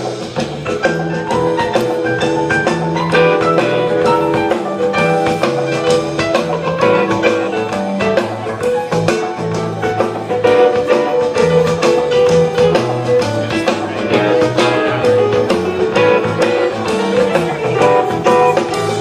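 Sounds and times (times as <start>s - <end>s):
bass line: 0.0s - 19.0s
drum kit: 0.0s - 19.0s
rock band playing: 0.0s - 19.0s.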